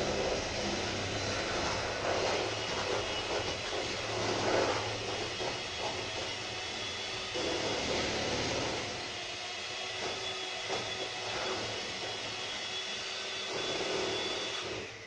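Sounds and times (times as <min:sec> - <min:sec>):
electric mixer motor humming: 0:00.0 - 0:15.0.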